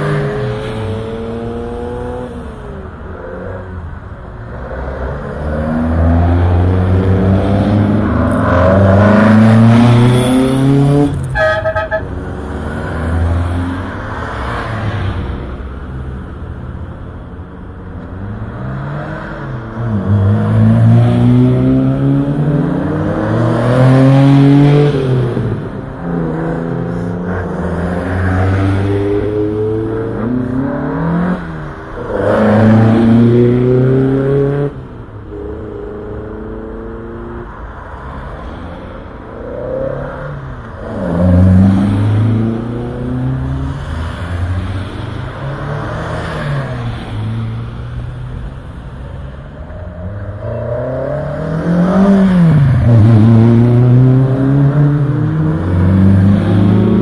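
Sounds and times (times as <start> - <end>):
car engines revving past: 0.0 - 57.0.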